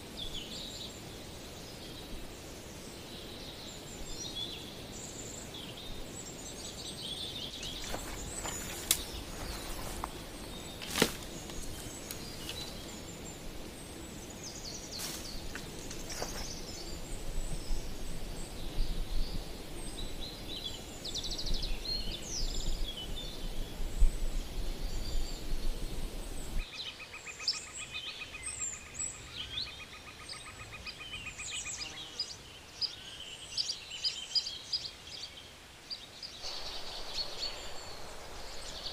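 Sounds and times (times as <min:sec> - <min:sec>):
low background noise: 0:00.0 - 0:38.9
small birds chirping and singing: 0:00.0 - 0:38.9.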